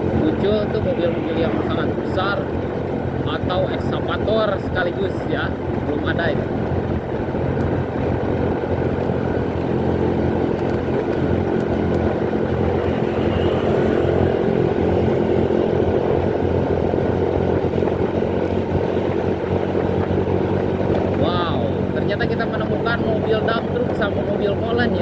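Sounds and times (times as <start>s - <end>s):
road noise: 0.0s - 25.0s
motorcycle engine running: 1.8s - 25.0s.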